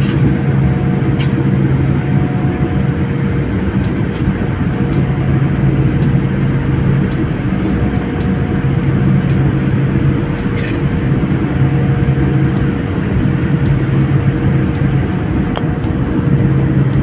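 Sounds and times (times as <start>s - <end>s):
jet engines rumbling: 0.0s - 17.0s
light irregular ticking: 0.0s - 17.0s.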